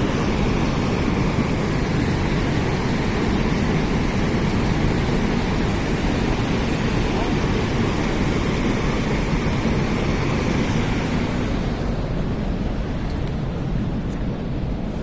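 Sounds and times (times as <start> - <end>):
water rushing down a cascade: 0.0 - 13.1.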